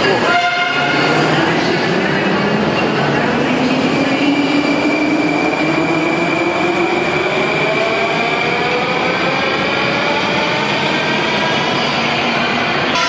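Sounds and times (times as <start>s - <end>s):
train cars running noise: 0.0s - 13.0s.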